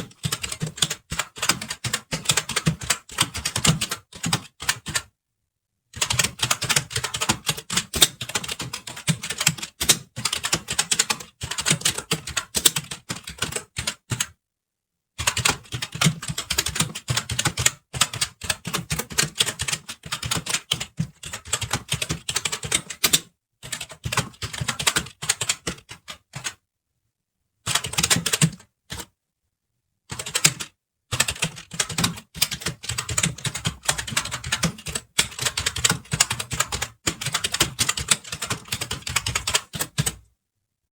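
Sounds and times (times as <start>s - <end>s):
fast typing on computer keyboard: 0.0s - 5.1s, 6.0s - 14.4s, 15.2s - 26.6s, 27.7s - 29.1s, 30.1s - 40.2s.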